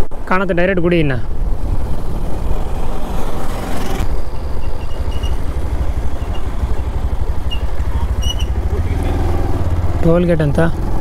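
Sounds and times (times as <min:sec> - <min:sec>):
motorcycle engine running: 0:01.3 - 0:11.0.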